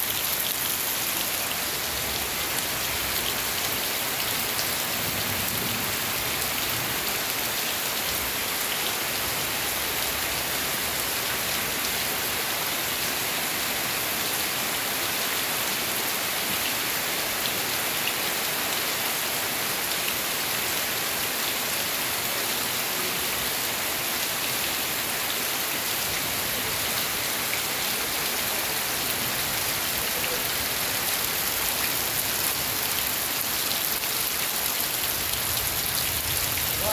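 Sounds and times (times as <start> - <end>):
heavy rain on grass: 0.0 - 36.9.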